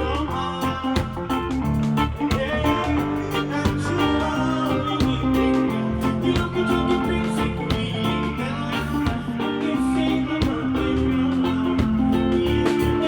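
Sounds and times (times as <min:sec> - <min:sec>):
guitar: 0:00.0 - 0:13.0
live band music: 0:00.0 - 0:13.0
steady beat: 0:00.0 - 0:13.0.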